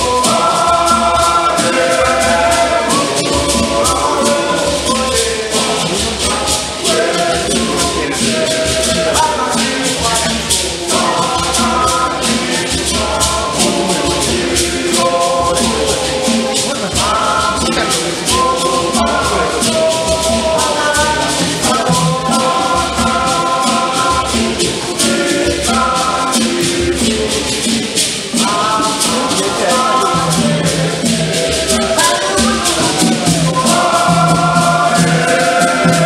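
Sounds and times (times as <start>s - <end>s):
gourd rattles shaken: 0.0s - 36.0s
men's choir singing a hymn: 0.0s - 36.0s.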